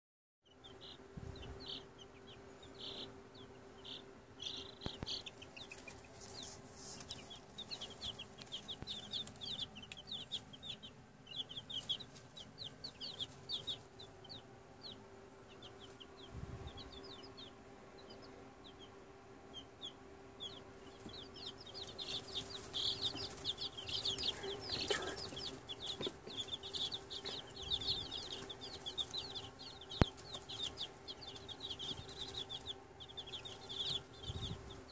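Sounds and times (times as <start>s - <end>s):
chicks peeping: 0.5s - 34.9s
steady low hum: 0.5s - 34.9s.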